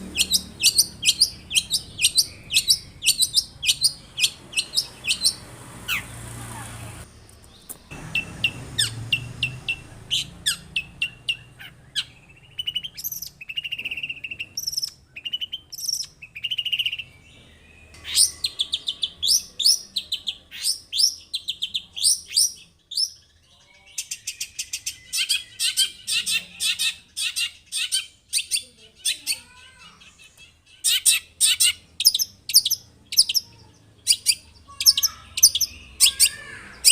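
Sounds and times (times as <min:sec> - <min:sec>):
shrike singing: 0:00.0 - 0:23.0, 0:23.9 - 0:36.9.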